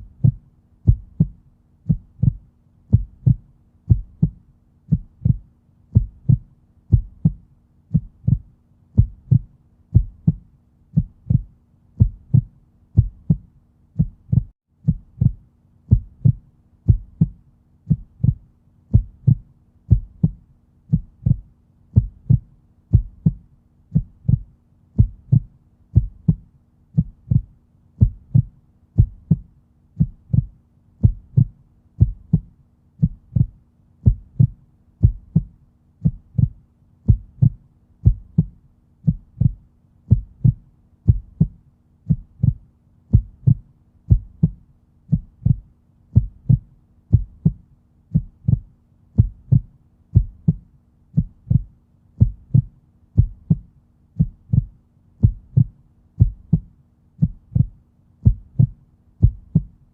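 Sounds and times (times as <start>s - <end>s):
heartbeat: 0.0s - 59.9s.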